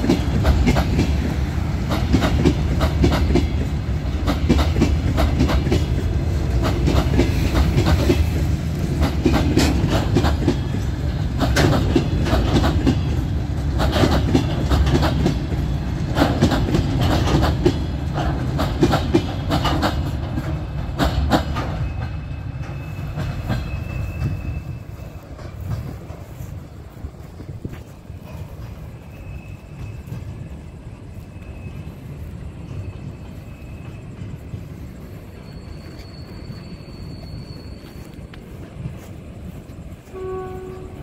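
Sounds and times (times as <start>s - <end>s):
low rumble of freight wagons: 0.0s - 41.0s
train wheels clacking over rail joints: 0.0s - 41.0s.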